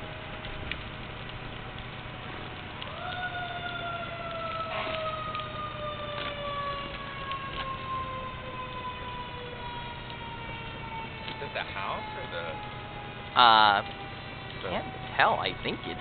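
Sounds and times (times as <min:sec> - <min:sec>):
fire engine siren: 0:00.0 - 0:16.0.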